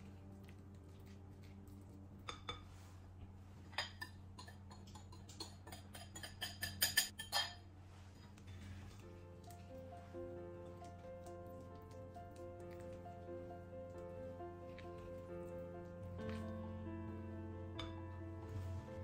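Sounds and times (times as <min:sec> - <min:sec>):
soft background music: 0:00.0 - 0:05.6, 0:08.4 - 0:19.0.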